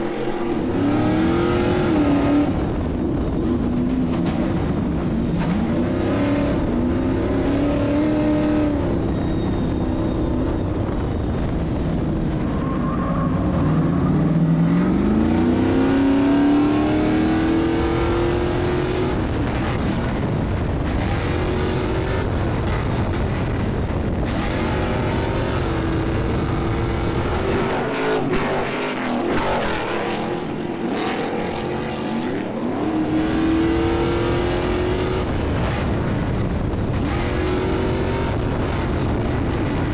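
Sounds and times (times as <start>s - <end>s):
truck engine revving: 0.0s - 9.9s, 11.4s - 39.9s.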